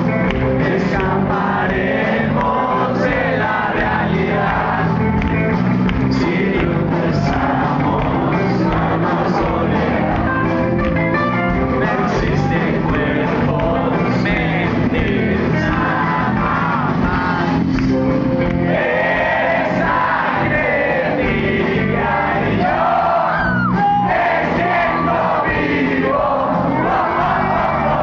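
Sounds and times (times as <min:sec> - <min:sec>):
lead singer: 0:00.0 - 0:10.8, 0:11.5 - 0:28.0
crowd noise: 0:00.0 - 0:28.0
rock band playing live: 0:00.0 - 0:28.0.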